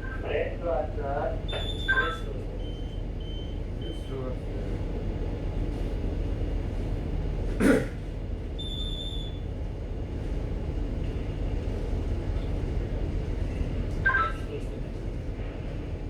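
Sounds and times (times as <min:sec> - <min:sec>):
low rumble of ship machinery: 0:00.0 - 0:16.0.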